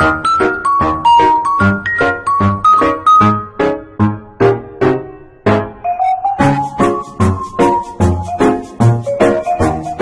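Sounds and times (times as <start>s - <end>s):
upbeat music with plinky melody: 0.0s - 10.0s.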